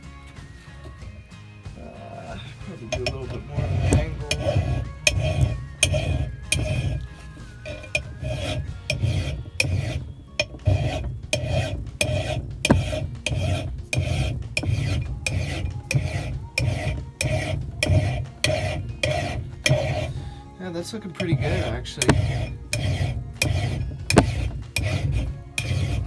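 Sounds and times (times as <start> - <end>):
file rasping across steel: 1.8 - 26.0.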